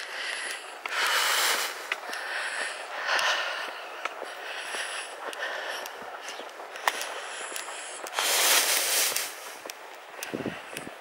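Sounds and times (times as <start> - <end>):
person breathing: 0.0 - 9.6, 10.2 - 11.0
light clicks and crackles: 0.0 - 11.0.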